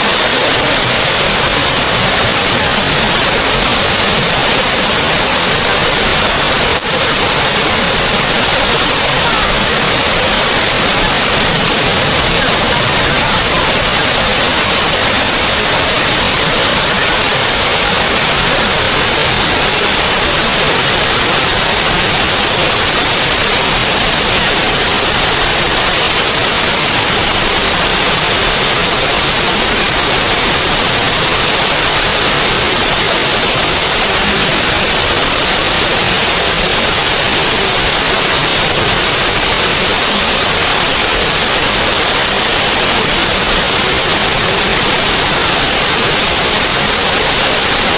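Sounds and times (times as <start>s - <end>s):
small waterfall rushing: 0.0s - 47.9s.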